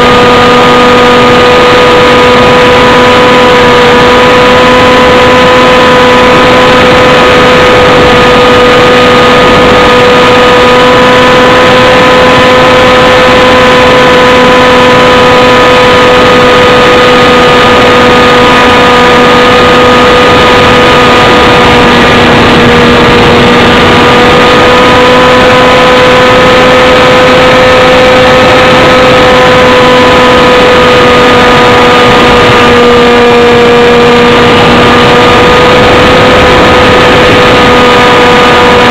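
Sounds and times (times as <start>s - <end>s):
small aircraft propeller drone: 0.0s - 38.9s.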